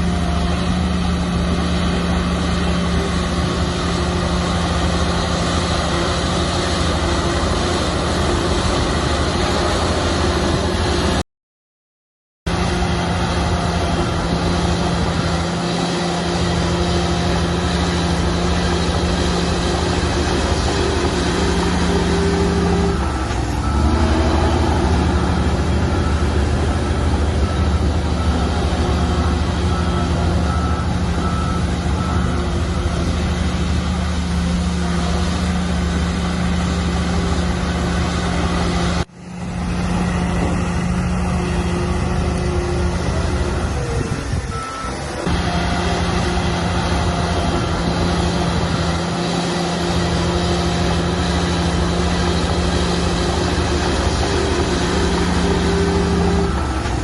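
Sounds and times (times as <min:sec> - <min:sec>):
bulldozer diesel engine running: 0:00.0 - 0:11.2, 0:12.5 - 0:57.0.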